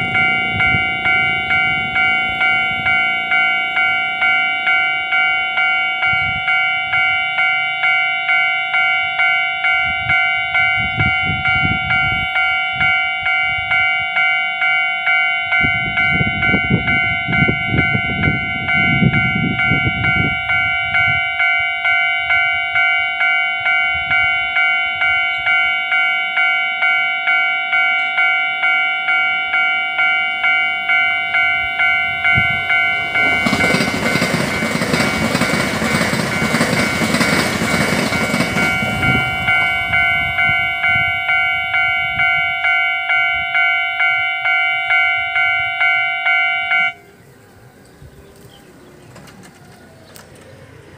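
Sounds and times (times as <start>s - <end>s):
level crossing warning bell: 0.0s - 47.7s
electric train passing: 0.0s - 50.9s.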